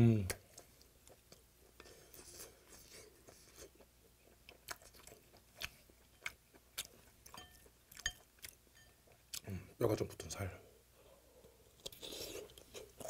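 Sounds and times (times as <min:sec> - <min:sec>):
person chewing: 0:00.3 - 0:09.5, 0:11.4 - 0:13.0.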